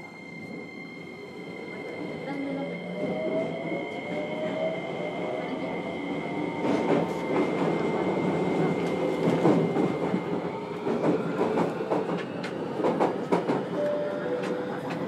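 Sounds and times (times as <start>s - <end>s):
train wheels rumbling on rails: 1.6s - 15.0s.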